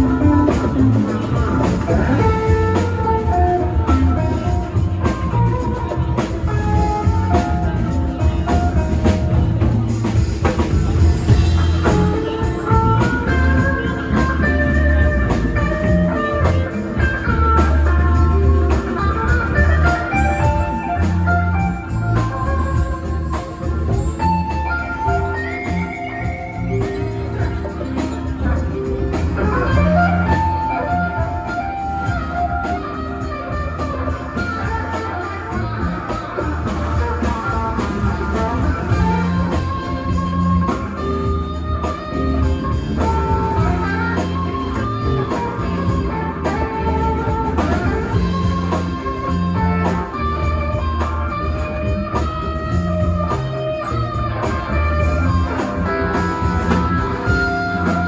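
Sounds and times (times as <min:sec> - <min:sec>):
bass line: 0:00.0 - 0:58.0
drums: 0:00.0 - 0:58.0
electric guitar lead lines: 0:00.0 - 0:58.0.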